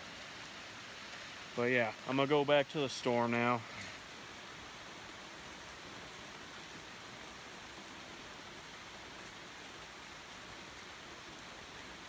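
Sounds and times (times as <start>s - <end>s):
steady rainfall: 0.0s - 12.0s.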